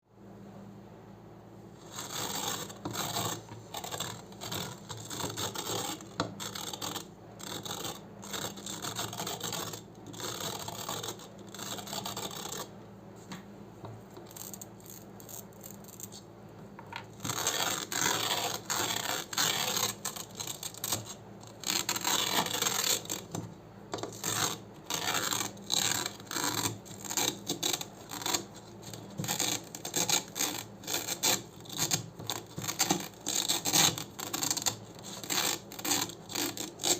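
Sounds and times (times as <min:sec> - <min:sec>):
hook-and-loop fastener rasping: 0:01.8 - 0:12.7, 0:14.1 - 0:16.2, 0:16.8 - 0:36.9.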